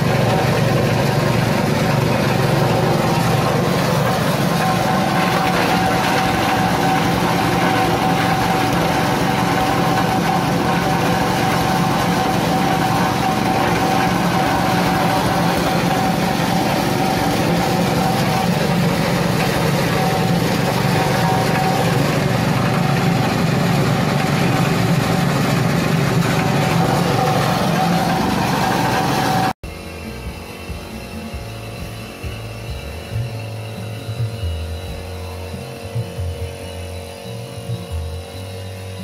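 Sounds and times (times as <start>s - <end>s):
shredding machine whine: 0.0s - 39.0s
small petrol engine running: 0.0s - 39.0s.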